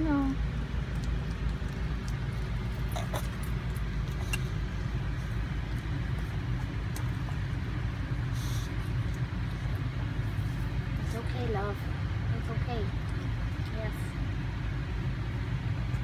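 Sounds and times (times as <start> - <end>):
van engine hum: 0.0 - 16.0.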